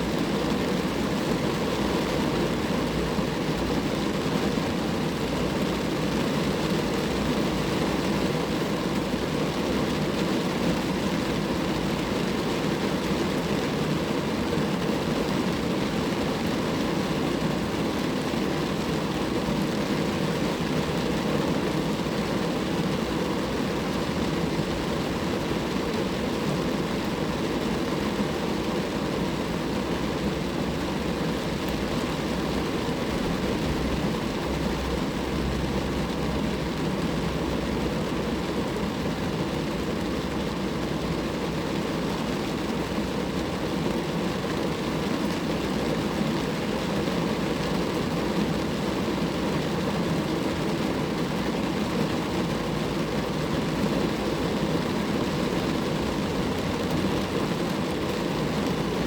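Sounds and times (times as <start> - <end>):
rain falling on a car: 0.0 - 59.0.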